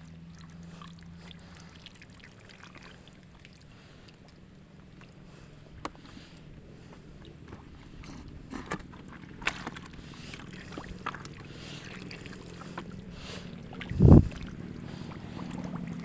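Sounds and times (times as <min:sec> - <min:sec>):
water pump engine running: 0:00.0 - 0:16.0.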